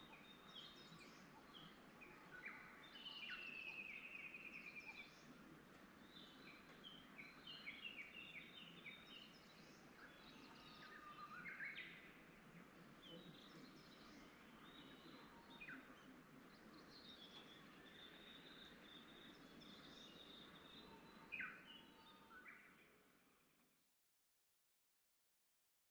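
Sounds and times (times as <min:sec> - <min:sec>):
songbirds singing: 0:00.0 - 0:23.4
low background noise: 0:00.0 - 0:24.0.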